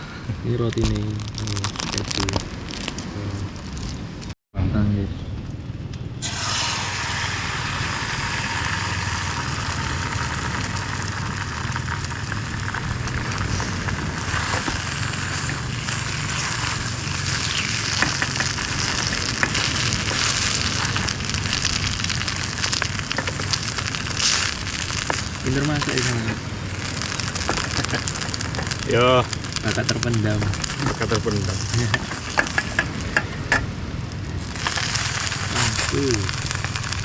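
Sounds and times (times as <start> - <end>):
crackles and pops: 0.6 - 4.4, 5.4 - 37.0
bread sizzling in a pan: 6.2 - 37.0.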